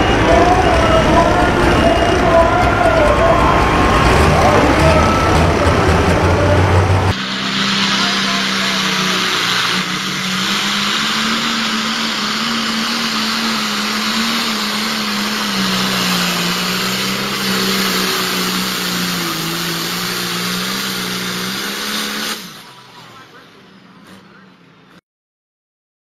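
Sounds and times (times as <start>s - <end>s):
tractor diesel engine at full throttle: 0.0s - 25.0s.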